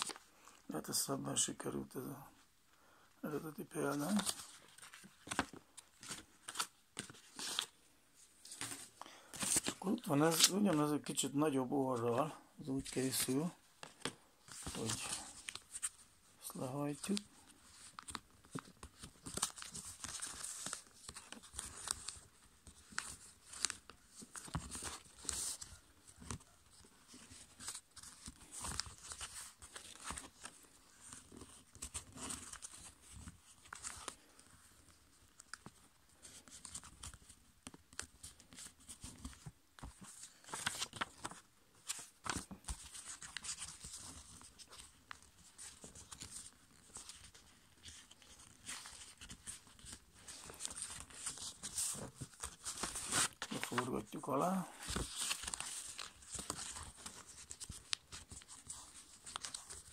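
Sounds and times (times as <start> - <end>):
paper rustling and crinkling: 0.0 - 0.6, 3.6 - 11.2, 12.0 - 59.9.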